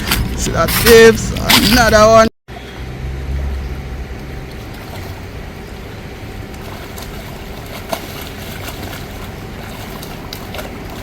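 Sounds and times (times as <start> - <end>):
outdoor rumbling noise: 0.0 - 11.0.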